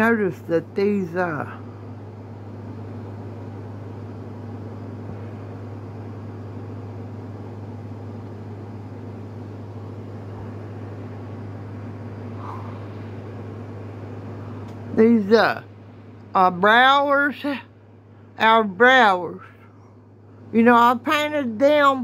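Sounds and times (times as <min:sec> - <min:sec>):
fan humming with hiss: 0:00.0 - 0:22.0.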